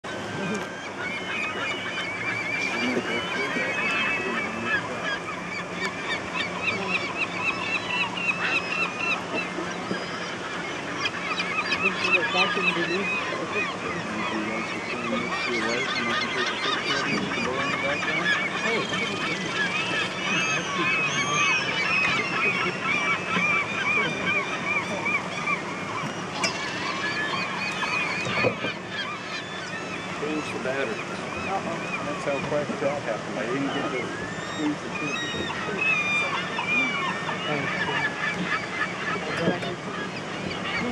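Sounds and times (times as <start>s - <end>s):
gulls calling: 0.0s - 40.9s
rushing water: 0.0s - 40.9s.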